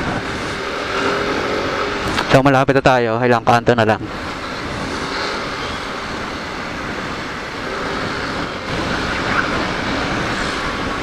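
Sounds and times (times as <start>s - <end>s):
motorcycle road noise: 0.0s - 11.0s
wind rushing on microphone: 0.0s - 11.0s.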